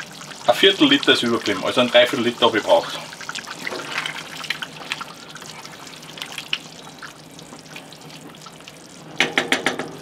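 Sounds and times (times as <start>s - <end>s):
stew bubbling in a pot: 0.0s - 10.0s
wooden spoon stirring: 0.2s - 8.8s.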